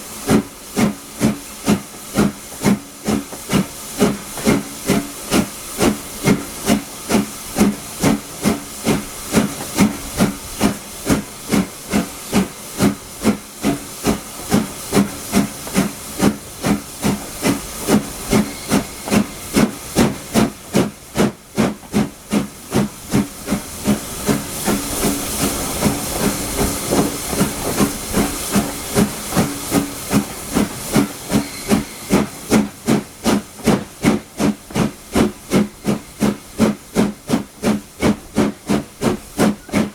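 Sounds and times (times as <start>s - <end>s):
steam hissing: 0.0s - 39.9s
steam locomotive chuffing: 0.0s - 39.9s.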